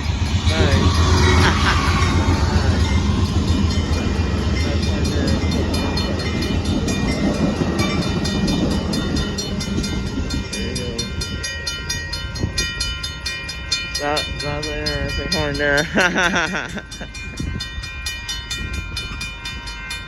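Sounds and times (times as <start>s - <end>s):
train wheels clicking: 0.0s - 17.5s
diesel locomotive rumble: 0.0s - 20.0s
high ringing: 0.0s - 20.0s.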